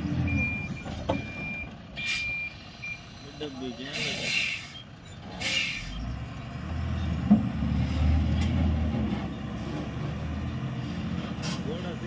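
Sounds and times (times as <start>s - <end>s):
truck diesel engine revving: 0.0s - 12.0s.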